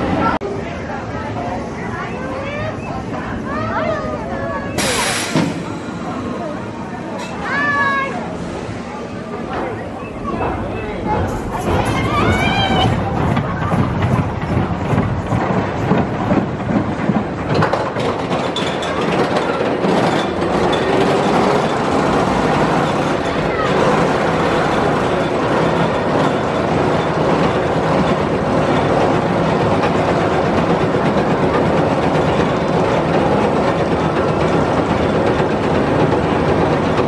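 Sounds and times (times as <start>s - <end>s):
roller coaster train rolling on track: 0.0s - 37.0s.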